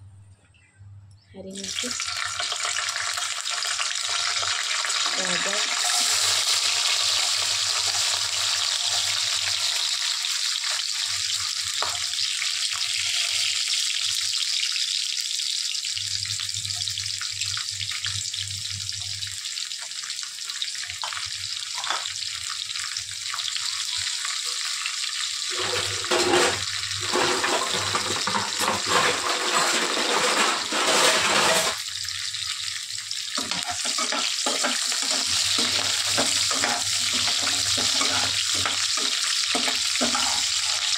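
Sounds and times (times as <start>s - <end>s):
vegetables frying in hot oil: 1.4s - 40.9s.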